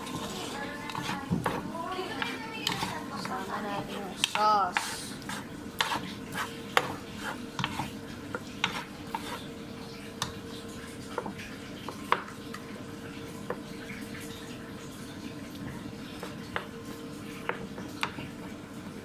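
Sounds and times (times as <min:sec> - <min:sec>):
utensil stirring in a pan: 0:00.0 - 0:19.0.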